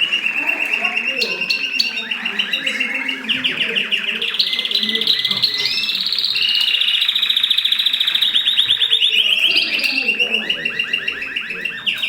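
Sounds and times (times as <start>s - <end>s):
canary singing trilled song: 0.0s - 12.0s.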